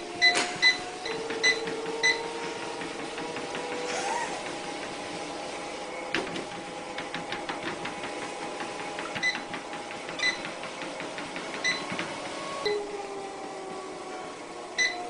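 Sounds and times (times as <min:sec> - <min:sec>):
treadmill motor whine: 0:00.0 - 0:15.0.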